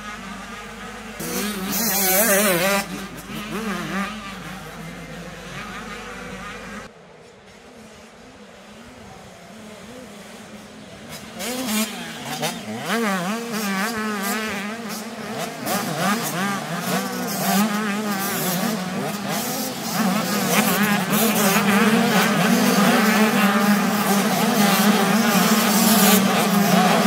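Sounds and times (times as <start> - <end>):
motocross bikes revving: 0.0 - 27.0.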